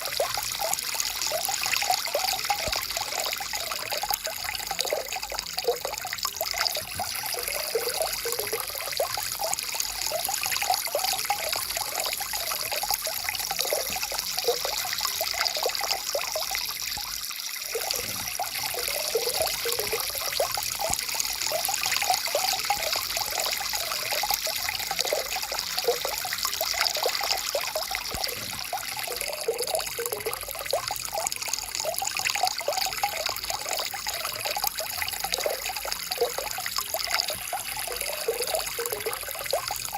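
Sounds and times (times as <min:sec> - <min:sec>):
stream bubbling and trickling: 0:00.0 - 0:39.9.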